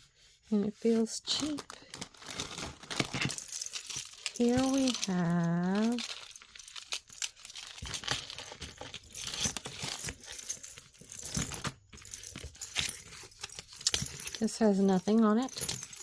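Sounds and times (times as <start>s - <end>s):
packaging crinkling: 1.3s - 14.4s.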